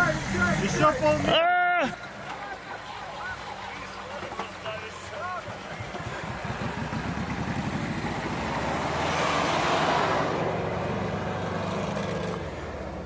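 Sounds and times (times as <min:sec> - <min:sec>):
vehicle engine under load: 0:00.0 - 0:13.0.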